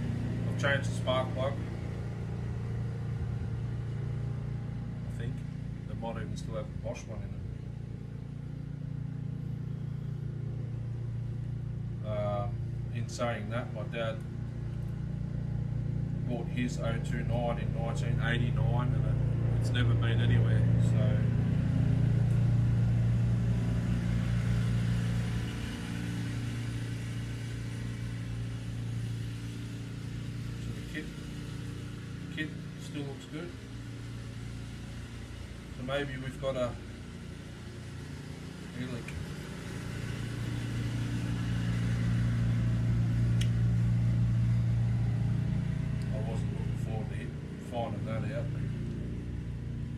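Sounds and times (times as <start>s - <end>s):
engine running at low pitch: 0.0s - 49.9s
low mechanical hum: 0.0s - 49.9s.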